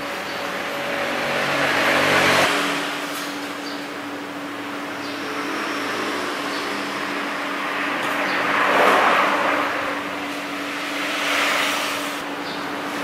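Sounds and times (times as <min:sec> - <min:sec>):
vehicles passing on highway: 0:00.0 - 0:13.0.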